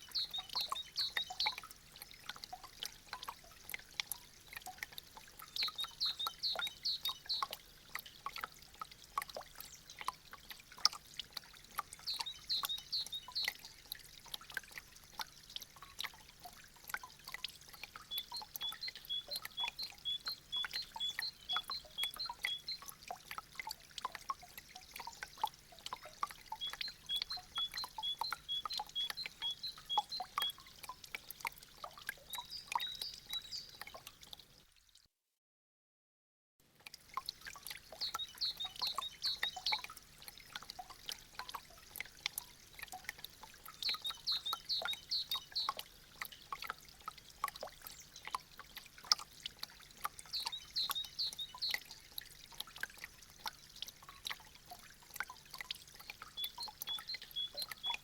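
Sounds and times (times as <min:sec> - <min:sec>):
meltwater dripping and trickling: 0:00.0 - 0:35.0, 0:36.6 - 0:58.0.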